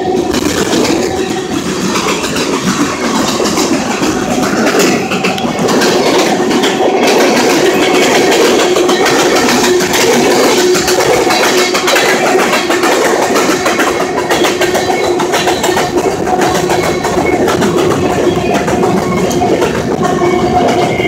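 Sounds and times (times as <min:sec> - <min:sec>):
freight train rumbling and rattling: 0:00.0 - 0:21.0
ringing squeal: 0:00.0 - 0:21.0.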